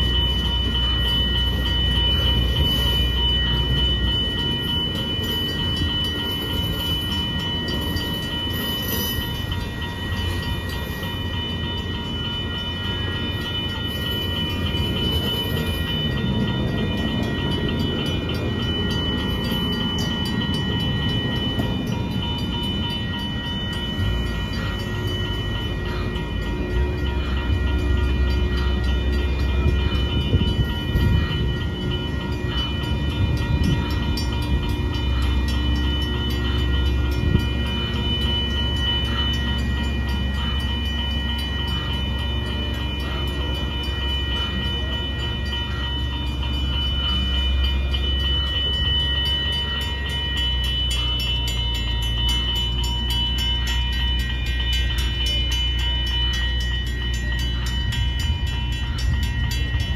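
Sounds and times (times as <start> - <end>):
high-pitched whining tones: 0.0 - 59.9
train low rumble: 0.0 - 59.9.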